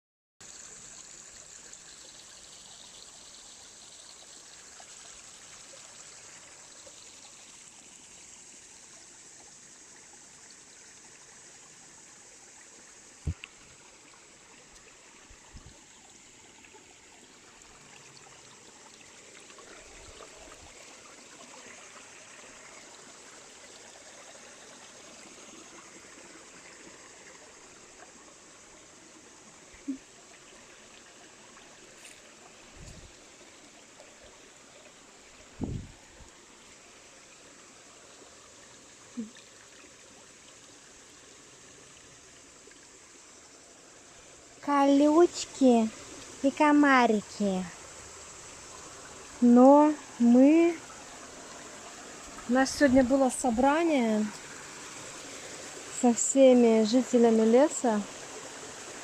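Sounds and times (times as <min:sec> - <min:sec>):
trickle of running water: 0:00.4 - 0:59.0.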